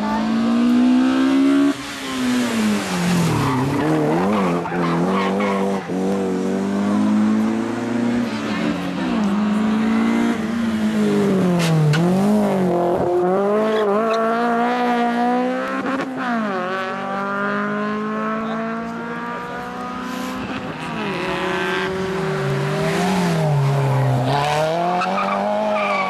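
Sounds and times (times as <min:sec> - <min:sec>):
rally car engine at full throttle: 0:00.0 - 0:26.0.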